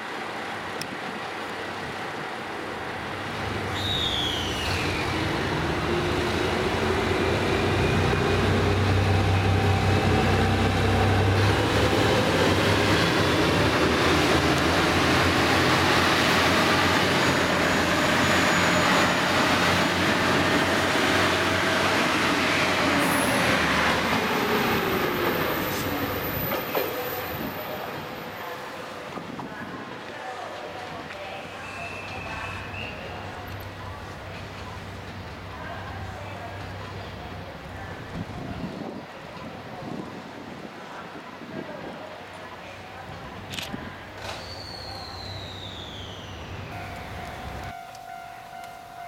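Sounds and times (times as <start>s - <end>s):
diesel railcar engines passing: 0.0s - 49.0s.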